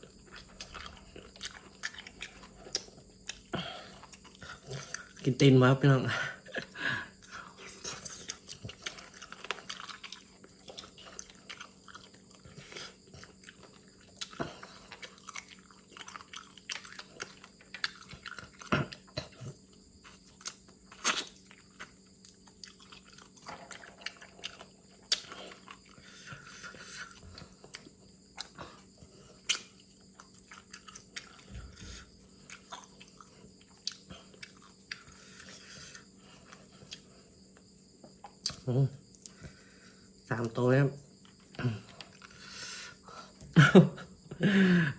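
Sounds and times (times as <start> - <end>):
chewing and biting: 0.0 - 5.3, 7.2 - 40.1.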